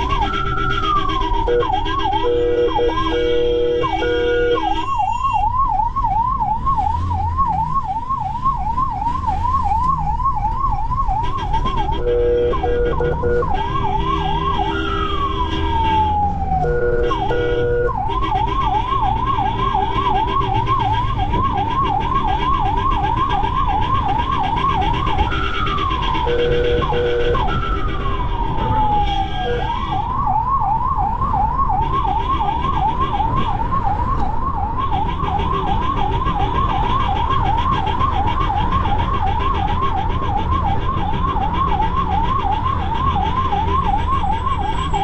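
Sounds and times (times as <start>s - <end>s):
ambulance siren yelping: 0.0s - 45.0s
engine and road rumble: 0.0s - 45.0s.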